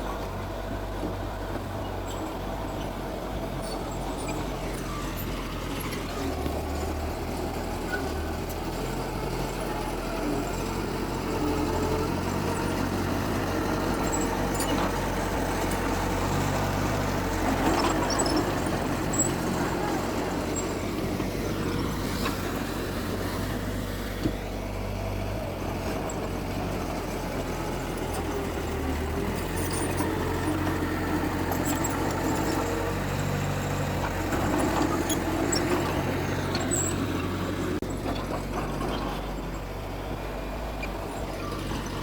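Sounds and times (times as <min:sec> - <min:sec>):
heavy machinery diesel engines: 0:00.0 - 0:42.0.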